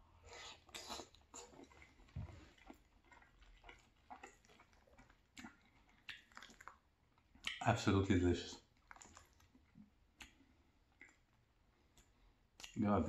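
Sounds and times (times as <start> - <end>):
chewing with wet mouth clicks: 0.3 - 7.7, 8.6 - 12.8.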